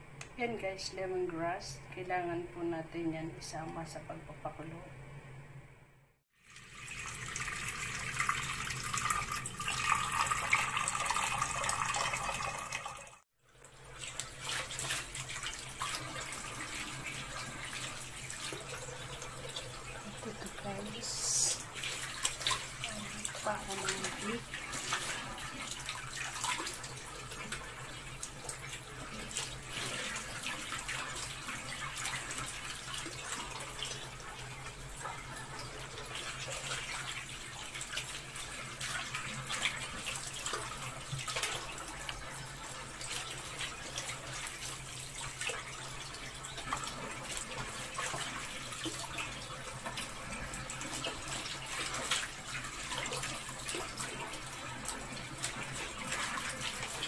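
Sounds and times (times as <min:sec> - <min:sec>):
tap water running into metal pot: 0:06.4 - 0:57.0.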